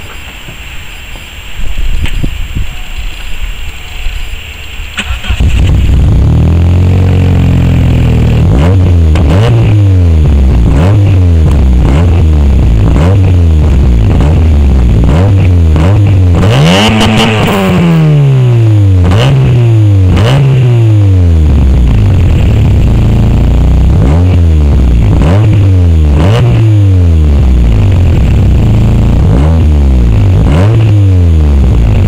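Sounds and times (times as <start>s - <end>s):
car engine revving loudly: 5.0s - 32.0s.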